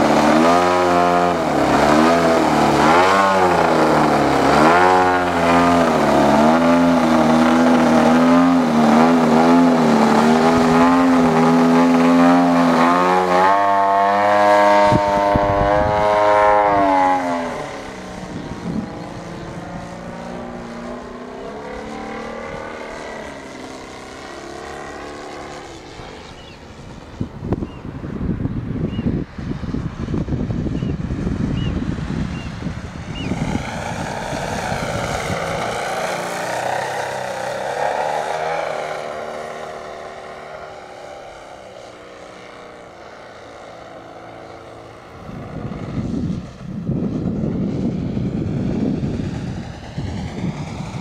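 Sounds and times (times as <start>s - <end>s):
model plane engine revving: 0.0s - 27.8s, 29.3s - 51.0s.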